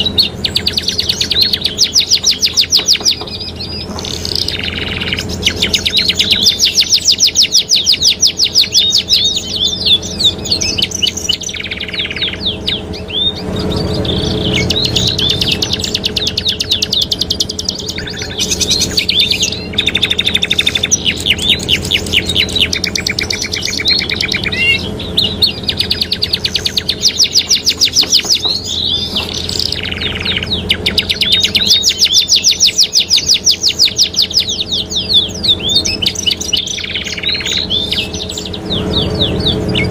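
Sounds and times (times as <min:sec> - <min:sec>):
canaries singing in rolling trills: 0:00.0 - 0:39.9.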